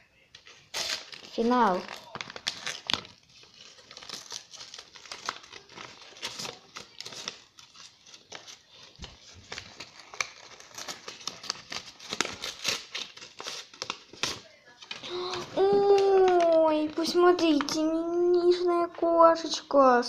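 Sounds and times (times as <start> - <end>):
paper crinkling and rustling: 0.4 - 18.6
paper tearing: 0.6 - 17.8.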